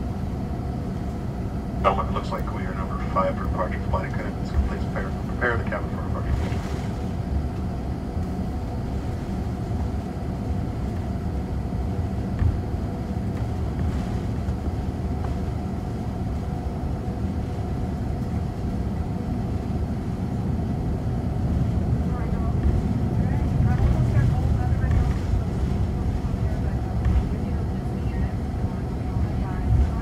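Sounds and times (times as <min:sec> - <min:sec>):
jet engines low rumble: 0:00.0 - 0:30.0.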